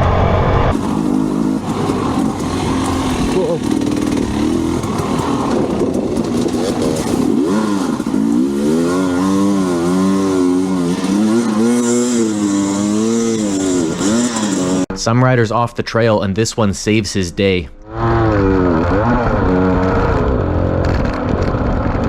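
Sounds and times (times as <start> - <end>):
dirt bike engine revving: 0.0 - 15.1, 17.8 - 22.0.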